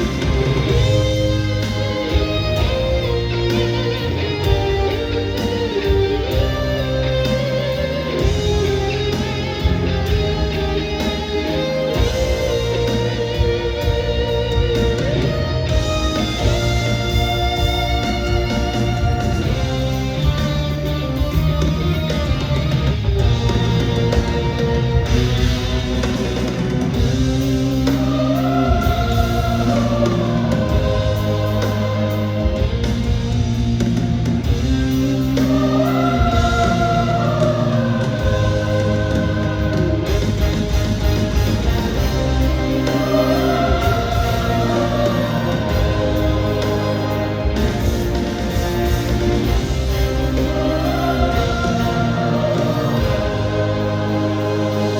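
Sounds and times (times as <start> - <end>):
lead guitar with vibrato: 0.0 - 54.9
pop-rock band instrumental: 0.0 - 54.9.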